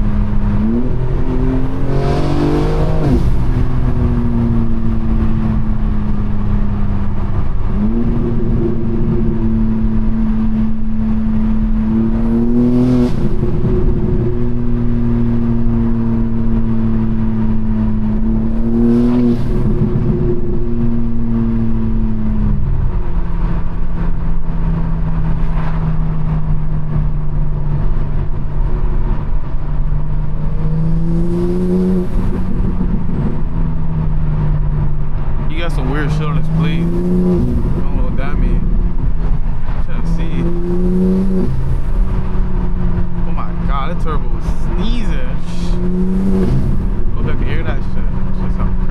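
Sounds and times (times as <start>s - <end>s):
car engine and exhaust droning: 0.0s - 48.9s.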